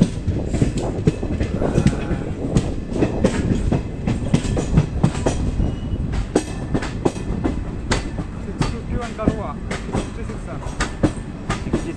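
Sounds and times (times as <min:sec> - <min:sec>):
low train rumble: 0:00.0 - 0:11.9
train wheels clacking over rail joints: 0:00.0 - 0:11.9.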